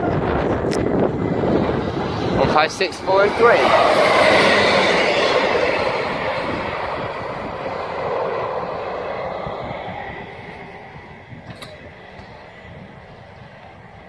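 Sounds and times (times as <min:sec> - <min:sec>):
diesel train rumble: 0:00.0 - 0:14.0.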